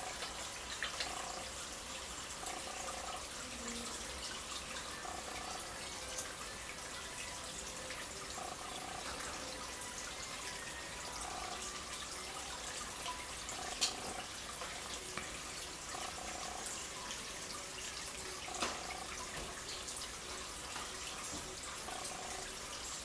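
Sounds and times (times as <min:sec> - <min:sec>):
water trickling into pond: 0:00.0 - 0:23.0.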